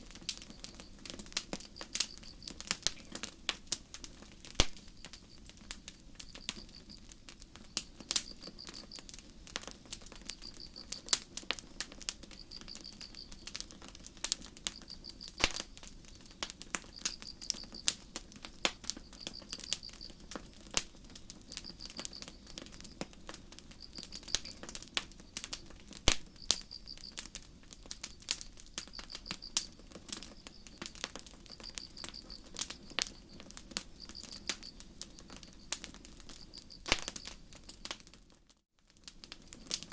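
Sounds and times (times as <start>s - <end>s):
campfire crackling and popping: 0.0s - 39.9s
cricket chirping: 0.1s - 3.4s, 4.6s - 38.0s.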